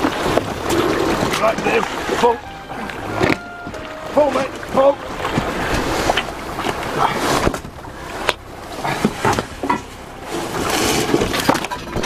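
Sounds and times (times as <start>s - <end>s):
wind and sea rumble: 0.0s - 12.0s.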